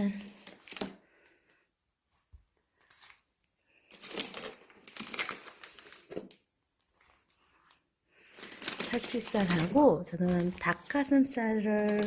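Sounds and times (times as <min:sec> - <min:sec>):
plastic packaging crinkling: 0:00.1 - 0:01.1, 0:02.8 - 0:12.0.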